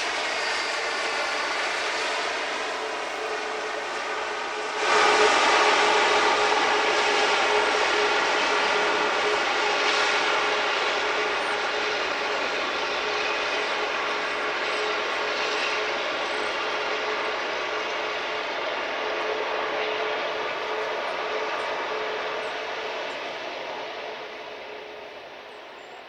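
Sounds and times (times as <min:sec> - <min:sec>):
jet engines passing with whine: 0:00.0 - 0:26.0.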